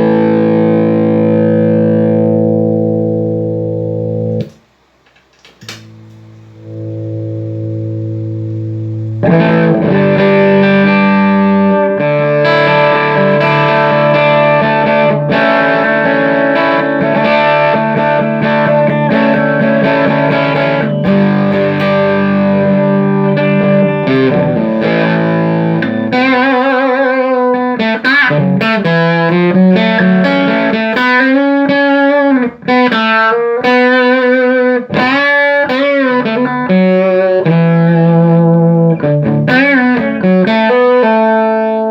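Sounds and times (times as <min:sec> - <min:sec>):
electric guitar through tube amp: 0:00.0 - 0:04.6, 0:05.4 - 0:41.9.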